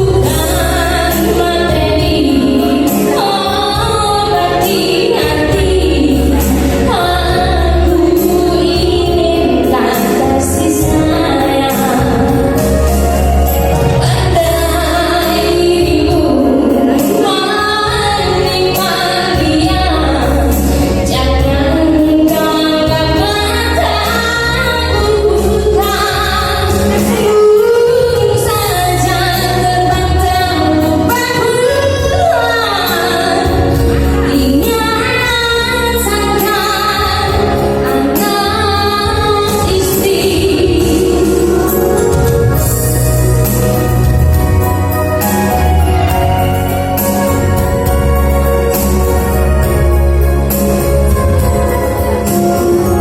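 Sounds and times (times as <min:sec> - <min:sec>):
steady bass accompaniment: 0:00.0 - 0:53.0
woman singing: 0:00.0 - 0:53.0.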